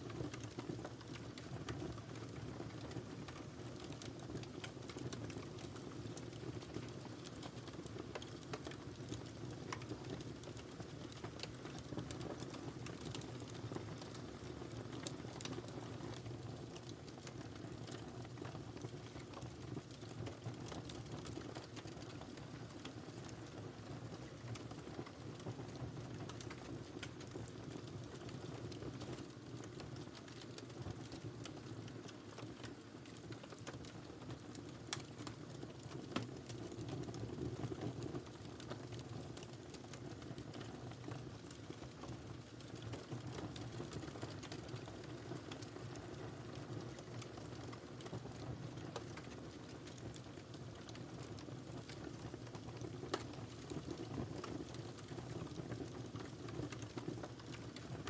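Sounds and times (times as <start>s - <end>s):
fire crackling and popping: 0.0s - 58.0s
low rumble of flames: 0.1s - 58.0s.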